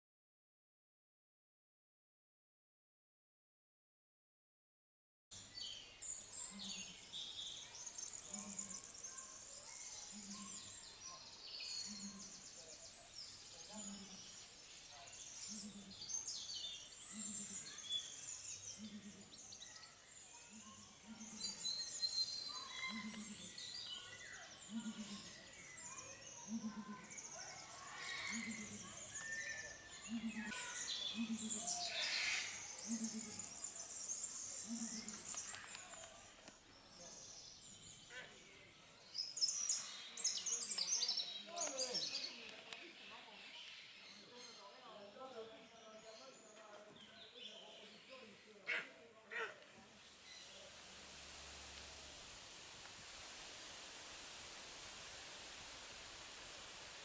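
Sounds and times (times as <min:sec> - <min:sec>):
small birds chirping: 0:05.4 - 0:57.0.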